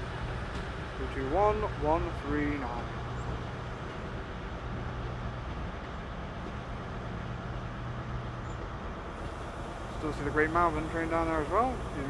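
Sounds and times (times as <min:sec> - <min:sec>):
diesel train engines humming: 0:00.0 - 0:12.0
railway station noise: 0:00.0 - 0:12.0.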